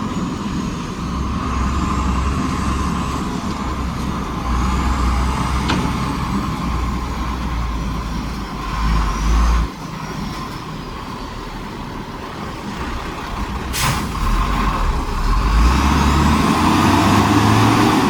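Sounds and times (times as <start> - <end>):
heavy diesel machinery rumbling: 0.0 - 18.0.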